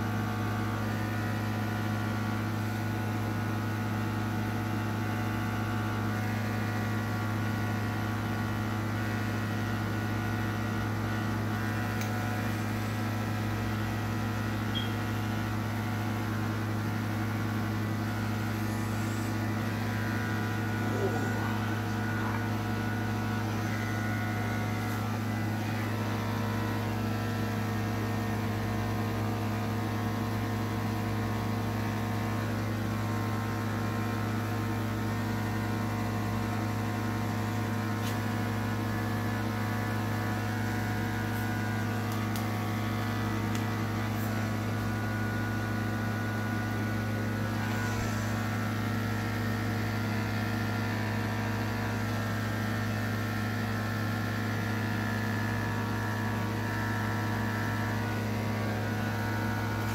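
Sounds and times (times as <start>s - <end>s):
electric clippers humming: 5.4s - 59.9s.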